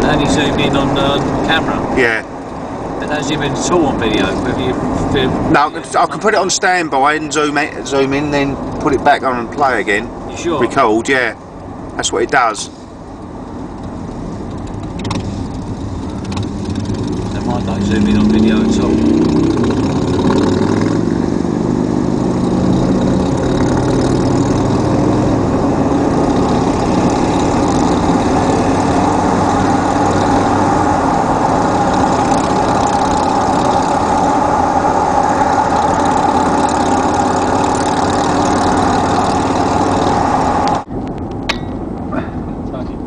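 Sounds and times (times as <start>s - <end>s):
vehicle engines running: 0.0s - 43.0s.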